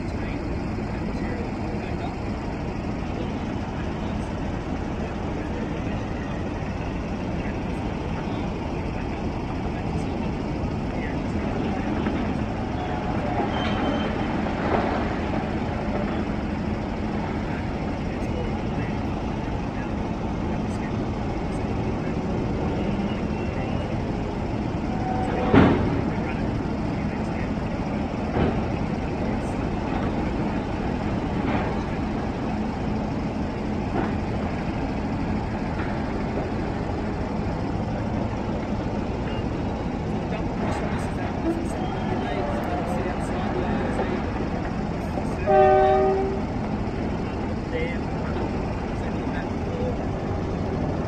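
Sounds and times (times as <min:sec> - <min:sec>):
low engine drone: 0:00.0 - 0:51.0
mining machinery rumble: 0:00.0 - 0:51.0.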